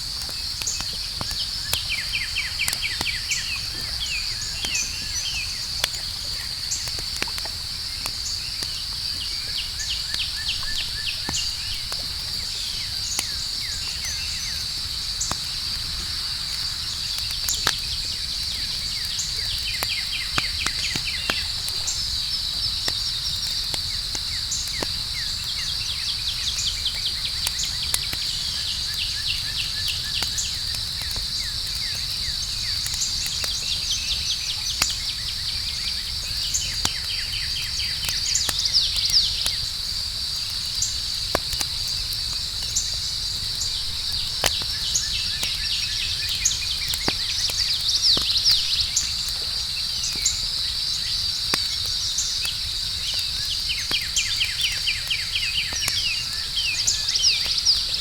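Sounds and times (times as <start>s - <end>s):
campfire crackling and popping: 0.0s - 58.0s
night insects trilling: 0.0s - 58.0s.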